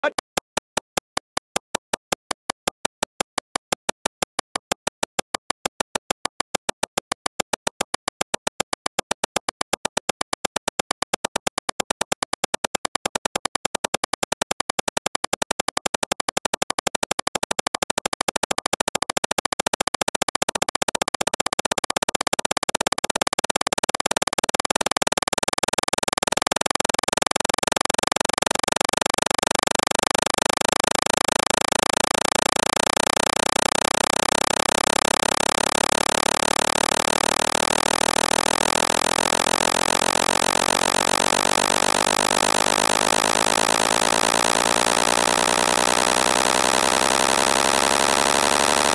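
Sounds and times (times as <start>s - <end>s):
synthesized clicks speeding into buzz: 0.8s - 48.9s.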